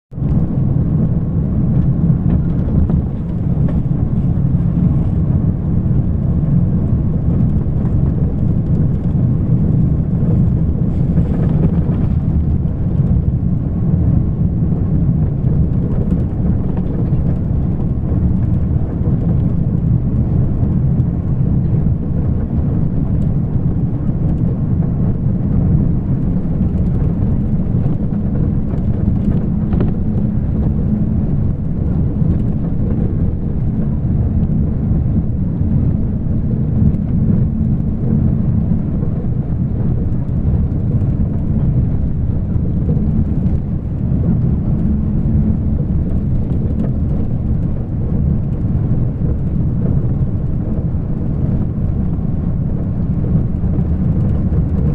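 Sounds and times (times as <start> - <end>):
vehicle interior road rumble: 0.1 - 54.9.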